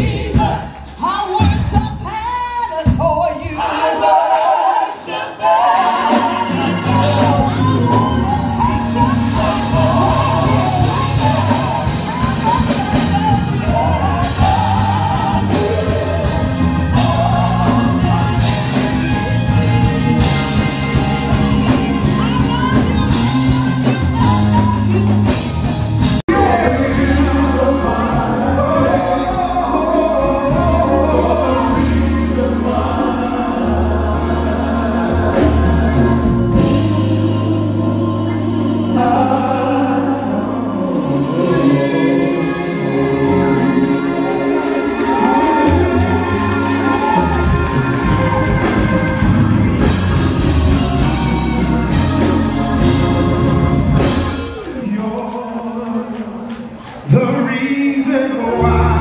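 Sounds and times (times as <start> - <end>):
gospel band with bass: 0.0 - 59.0.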